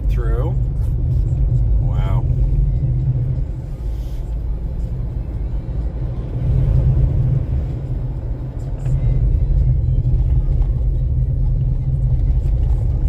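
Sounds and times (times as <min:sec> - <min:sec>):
car driving on snowy road: 0:00.0 - 0:13.0.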